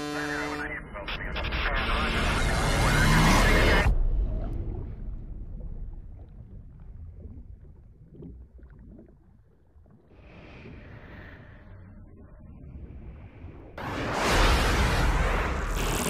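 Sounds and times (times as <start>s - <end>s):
muffled underwater rumble: 0.0s - 13.9s.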